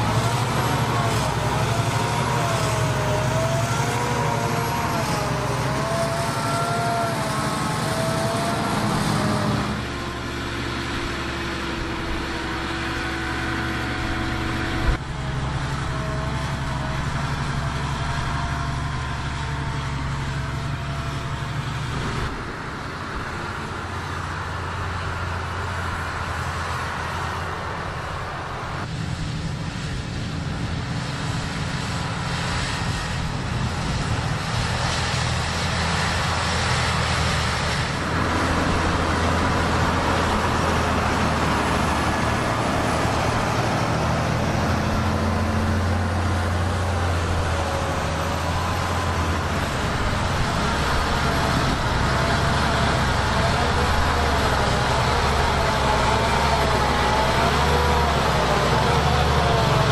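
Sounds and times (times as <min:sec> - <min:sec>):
hiss of soil and wind: 0:00.0 - 0:59.9
tractor diesel engines under load: 0:00.0 - 0:59.9.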